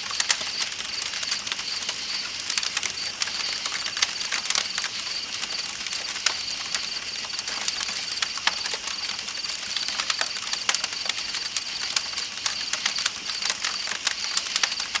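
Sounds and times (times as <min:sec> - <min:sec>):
campfire crackling and popping: 0:00.0 - 0:15.0
insects chirping: 0:00.0 - 0:15.0.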